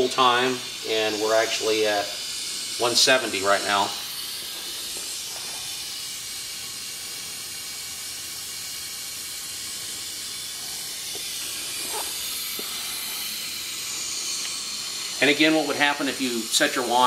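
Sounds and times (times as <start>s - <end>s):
water spraying into plastic bucket: 0.0s - 17.0s.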